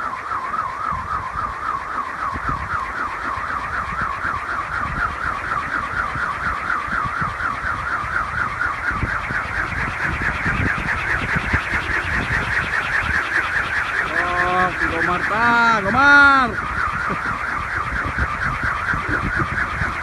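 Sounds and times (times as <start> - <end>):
wind propeller humming whir: 0.0 - 20.0.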